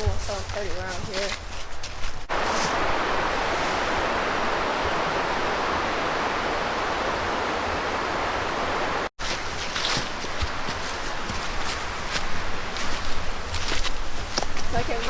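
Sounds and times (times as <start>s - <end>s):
stream flowing over rocks: 2.3s - 15.0s.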